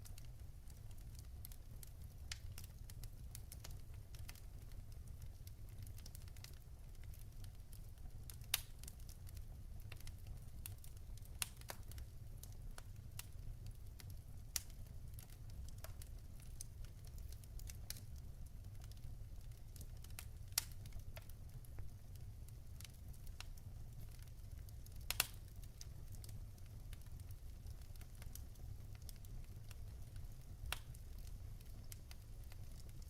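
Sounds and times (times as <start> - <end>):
fire rumbling: 0.0 - 33.0
logs crackling and popping: 0.0 - 33.0.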